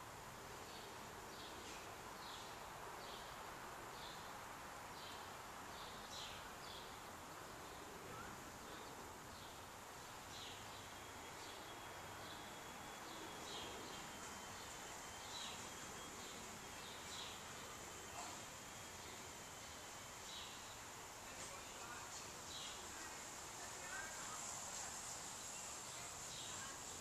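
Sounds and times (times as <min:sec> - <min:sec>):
steady hiss: 0:00.0 - 0:27.0
thin steady high tone: 0:05.2 - 0:27.0.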